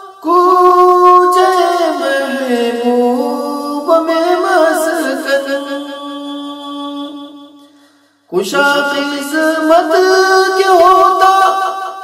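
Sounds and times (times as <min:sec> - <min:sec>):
man singing unaccompanied: 0:00.0 - 0:07.6, 0:08.3 - 0:12.0.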